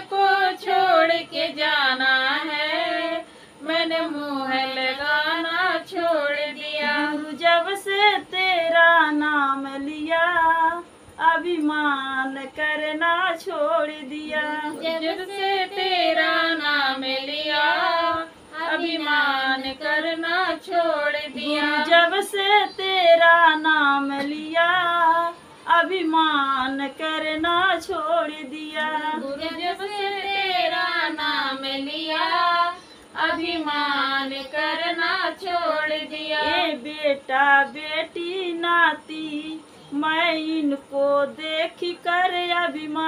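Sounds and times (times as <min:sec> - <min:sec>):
women singing unaccompanied: 0:00.0 - 0:43.0.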